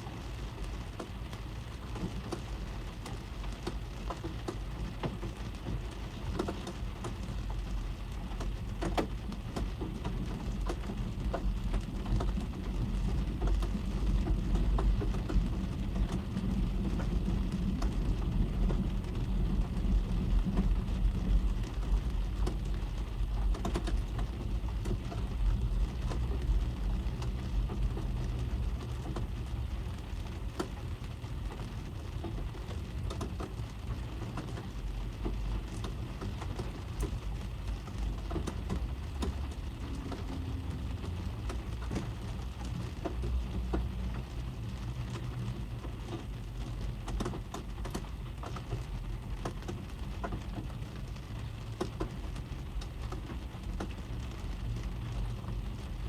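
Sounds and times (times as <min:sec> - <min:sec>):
rain pattering on car: 0:00.0 - 0:56.0.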